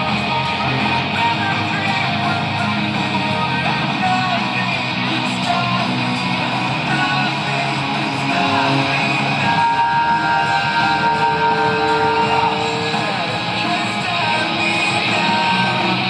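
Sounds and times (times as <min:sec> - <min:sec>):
strummed guitar music: 0:00.0 - 0:16.0.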